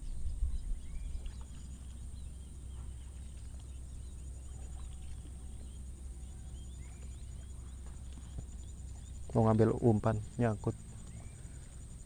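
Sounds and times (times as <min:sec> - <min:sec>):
faint chirps: 0:00.0 - 0:12.0
high insect drone: 0:00.0 - 0:12.0
wind rumble on microphone: 0:00.0 - 0:12.0.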